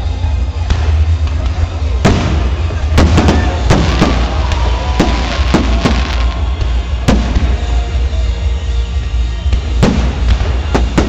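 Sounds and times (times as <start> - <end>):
steady low rumble: 0.0 - 11.0
firework bangs: 0.6 - 11.0.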